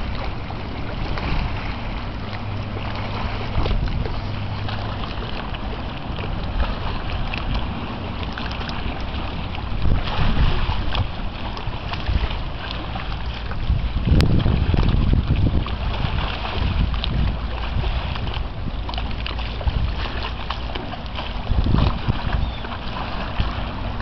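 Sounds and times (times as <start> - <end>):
ship engine humming: 0.0 - 24.0
wind on microphone: 0.0 - 24.0.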